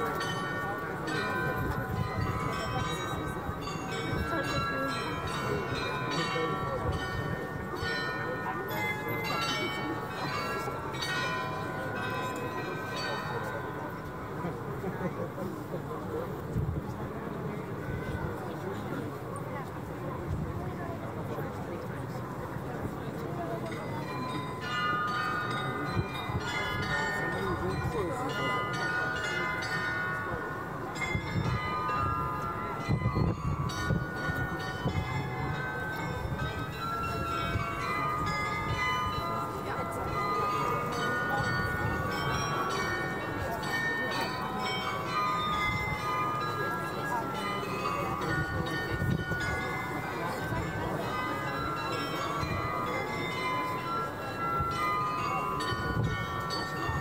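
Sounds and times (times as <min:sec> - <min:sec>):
glockenspiel bells playing a tune: 0:00.0 - 0:16.2, 0:20.8 - 0:57.0.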